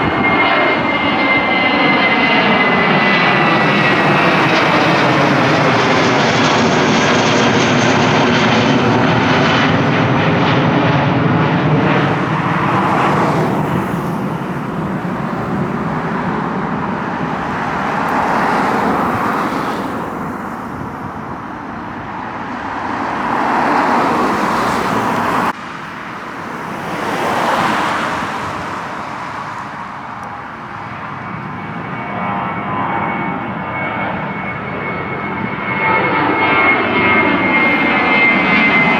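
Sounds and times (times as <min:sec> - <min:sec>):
high jet whine: 0:00.0 - 0:38.9
jet airliner engine roar: 0:00.0 - 0:38.9.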